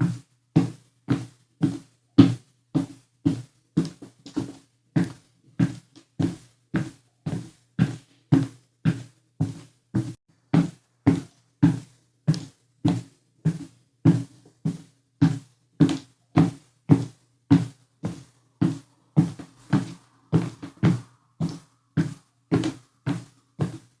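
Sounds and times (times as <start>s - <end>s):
footsteps climbing stairs: 0.6s - 24.0s.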